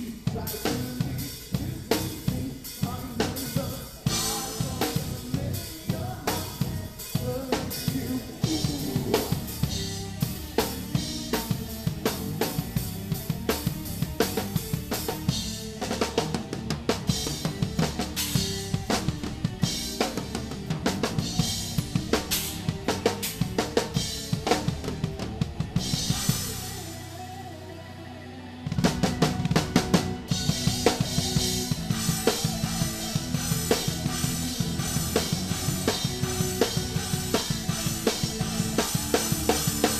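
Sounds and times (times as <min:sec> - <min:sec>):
fast metal drumming: 0:00.0 - 0:27.0, 0:28.8 - 0:39.9
metal band playing: 0:00.0 - 0:39.9.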